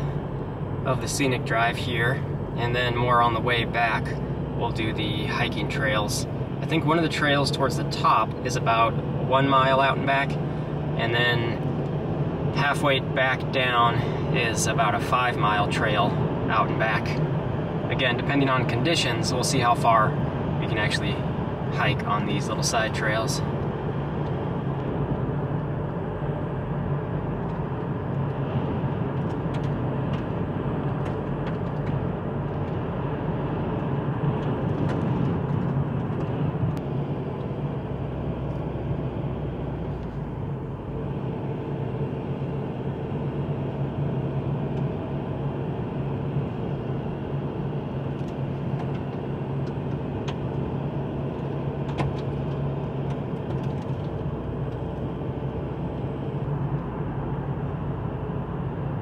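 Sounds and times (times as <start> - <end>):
car cabin road noise: 0.0 - 59.0.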